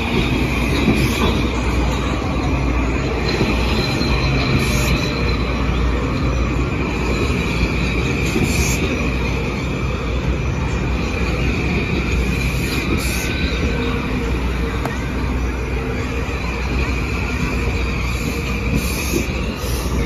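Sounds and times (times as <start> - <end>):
high-pitched brake squeal: 0.0 - 20.0
train low rumble: 0.0 - 20.0.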